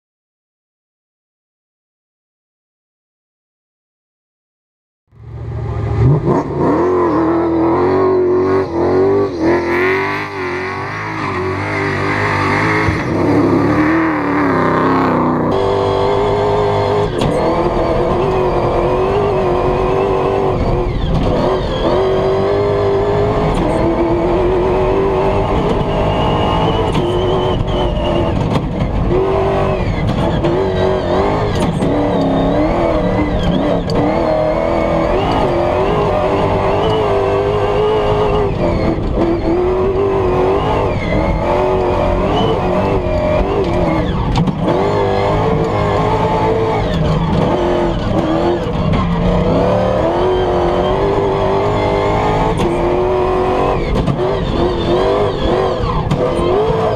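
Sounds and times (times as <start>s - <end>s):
rally truck engine at full throttle: 5.1s - 56.9s.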